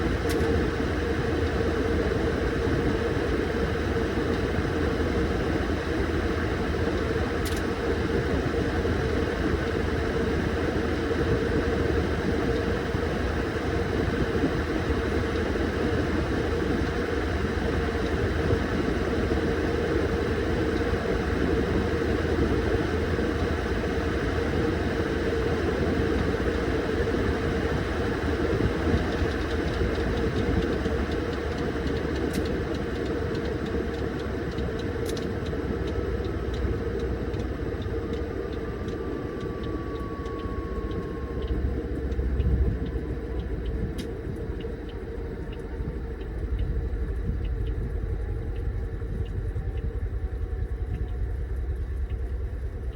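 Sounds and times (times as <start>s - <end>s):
washing machine motor hum: 0.0s - 52.9s.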